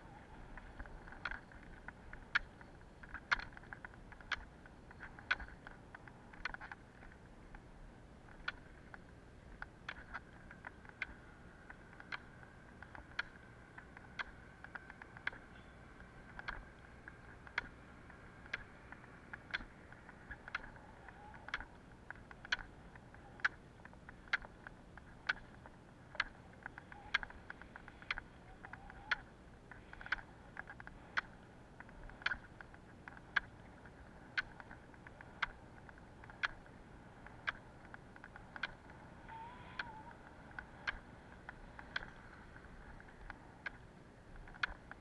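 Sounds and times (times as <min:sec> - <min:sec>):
pole tips clicking on asphalt: 0:00.0 - 0:45.0
wheels rolling on asphalt: 0:00.0 - 0:45.0.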